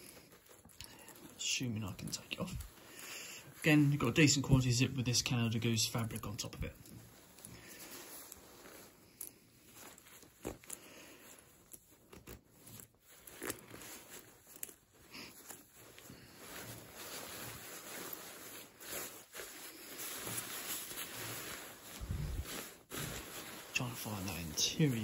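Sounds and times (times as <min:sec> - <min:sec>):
nylon jacket rustling: 0:00.0 - 0:25.0.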